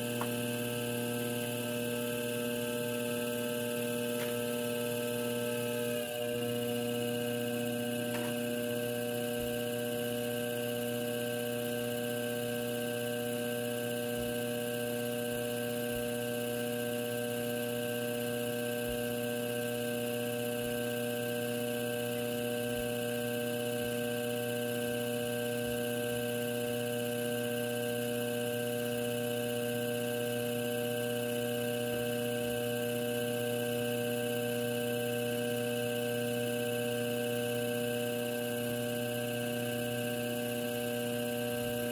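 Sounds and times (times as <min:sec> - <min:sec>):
pottery wheel motor humming: 0:00.0 - 0:41.9.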